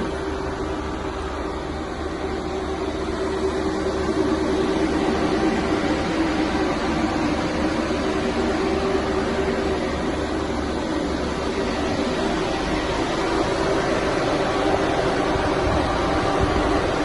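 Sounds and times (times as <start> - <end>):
higher mechanical hum: 0.0 - 17.0
refrigerated van low drone: 0.0 - 17.0.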